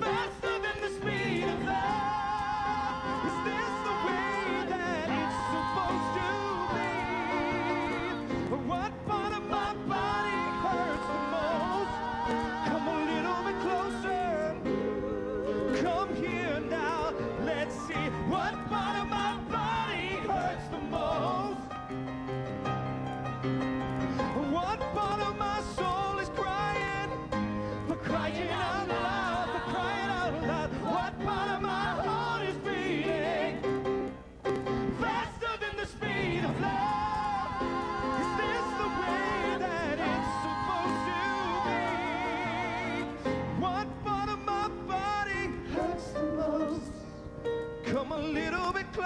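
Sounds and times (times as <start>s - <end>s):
wordless singing with vibrato: 0.0s - 22.6s, 24.0s - 49.0s.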